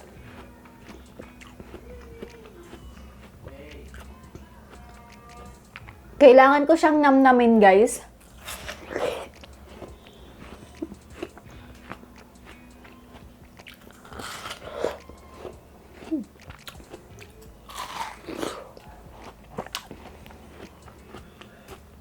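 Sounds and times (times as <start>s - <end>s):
chewing watermelon: 0.0s - 6.0s, 8.2s - 22.0s.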